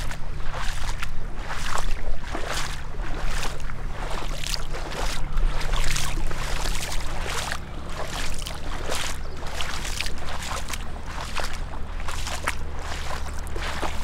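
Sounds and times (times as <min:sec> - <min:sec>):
boots splashing through floodwater: 0:00.0 - 0:14.0.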